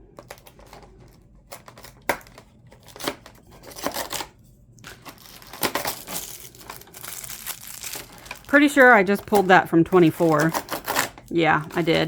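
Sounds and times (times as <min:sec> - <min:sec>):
cardboard tearing and crinkling: 0:01.6 - 0:12.0.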